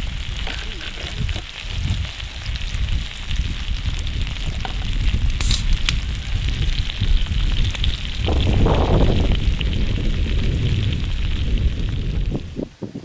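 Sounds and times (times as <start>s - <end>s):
sharp crack of fire: 0.0s - 12.7s
campfire crackling and popping: 0.0s - 12.8s
low fire rumble: 0.0s - 13.0s.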